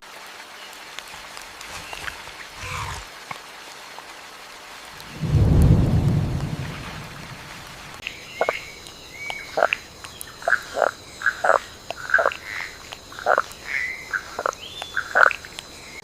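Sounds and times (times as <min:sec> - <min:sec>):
frogs croaking: 0:00.7 - 0:03.2, 0:05.0 - 0:16.0.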